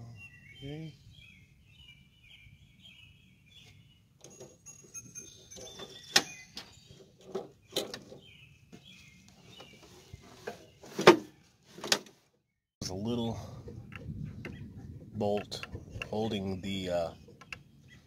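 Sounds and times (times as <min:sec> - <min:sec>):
birds chirping: 0:00.0 - 0:11.8, 0:12.4 - 0:18.0.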